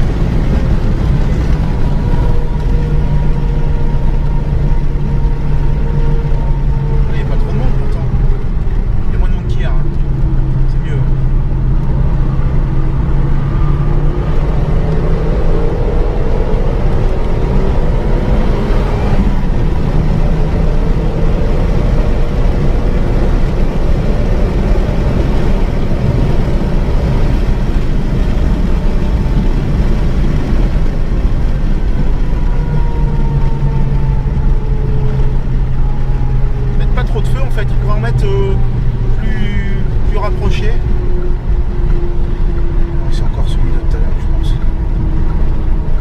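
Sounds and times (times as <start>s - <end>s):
car engine at speed: 0.0s - 46.0s
road and wind noise: 0.0s - 46.0s.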